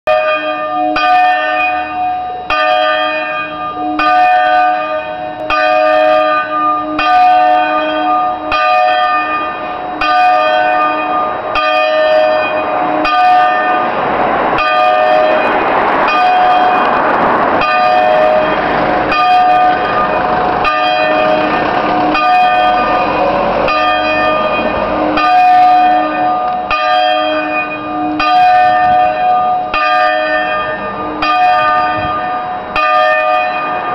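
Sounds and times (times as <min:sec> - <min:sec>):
church bells ringing: 0:00.1 - 0:33.9
rushing noise: 0:01.0 - 0:33.9.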